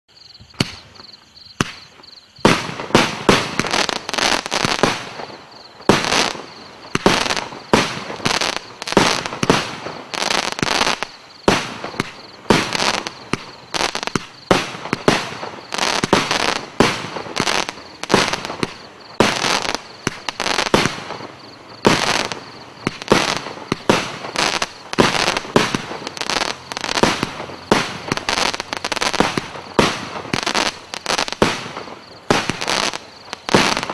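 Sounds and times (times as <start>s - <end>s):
firework bangs: 0.4s - 33.9s
firework crackles: 0.5s - 33.9s.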